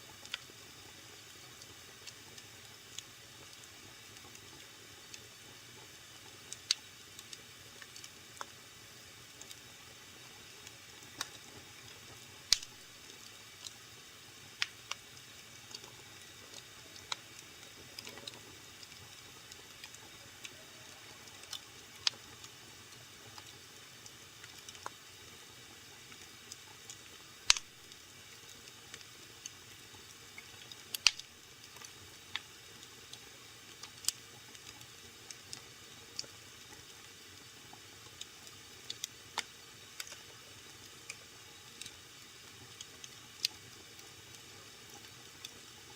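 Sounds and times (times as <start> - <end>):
low fire hiss: 0.0 - 45.9
wood fire crackling and popping: 0.2 - 13.8, 14.4 - 45.9.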